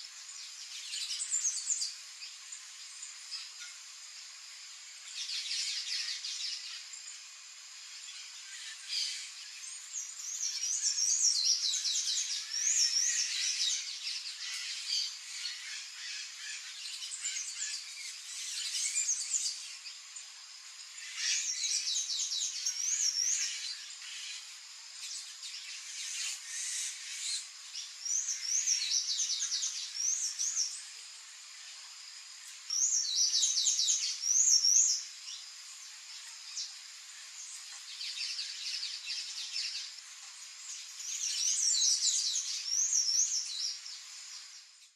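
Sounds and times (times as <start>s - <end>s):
faint bird chirps: 0.0s - 44.9s.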